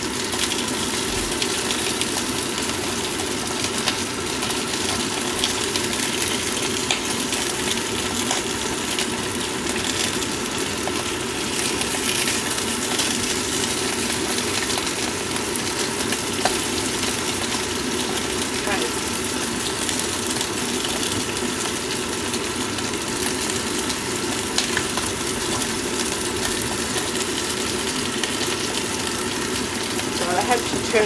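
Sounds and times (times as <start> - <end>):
sausages sizzling in a pan: 0.0 - 31.0.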